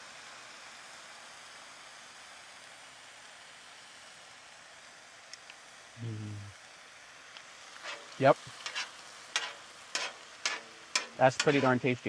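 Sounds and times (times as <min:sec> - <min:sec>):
steak sizzling on griddle: 0:00.0 - 0:06.0, 0:06.6 - 0:12.0.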